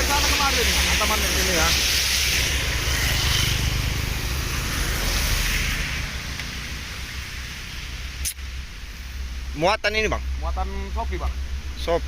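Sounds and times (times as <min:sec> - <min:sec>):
heavy rain hissing: 0:00.0 - 0:12.0
low rumble: 0:00.0 - 0:12.0.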